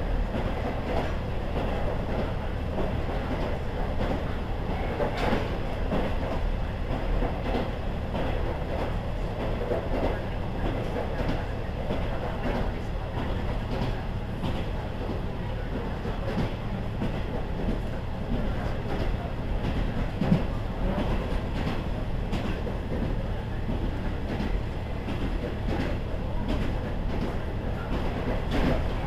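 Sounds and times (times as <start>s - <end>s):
diesel railcar rumble: 0.0s - 29.0s.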